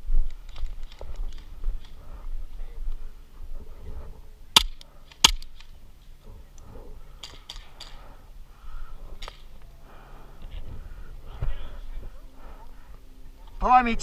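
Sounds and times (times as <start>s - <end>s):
rustling of movement: 0.0s - 13.6s.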